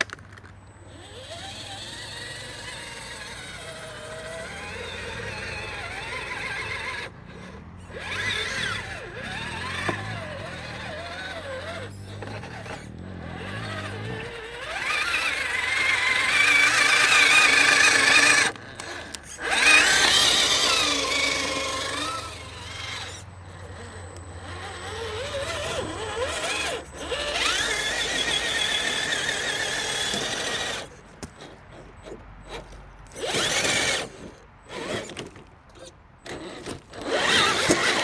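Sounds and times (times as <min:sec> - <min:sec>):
rc car electric motor whining: 0:00.0 - 0:38.0.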